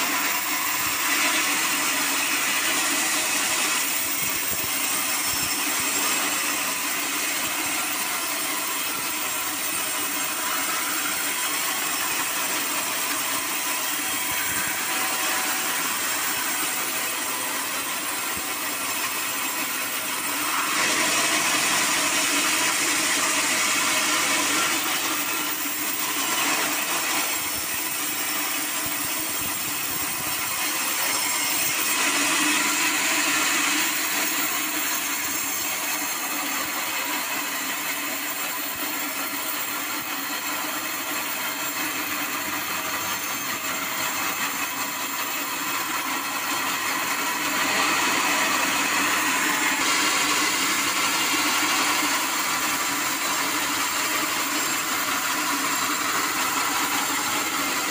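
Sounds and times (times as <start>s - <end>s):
band saw blade cutting log: 0.0s - 57.9s
machine running: 0.0s - 57.9s.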